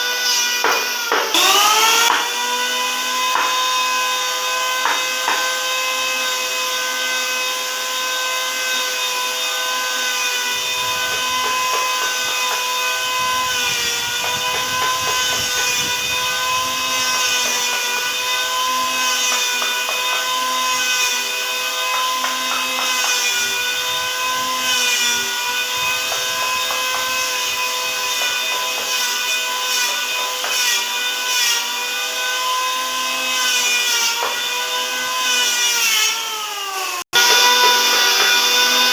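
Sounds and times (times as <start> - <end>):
woodworking machine cutting wood: 0.0 - 38.9.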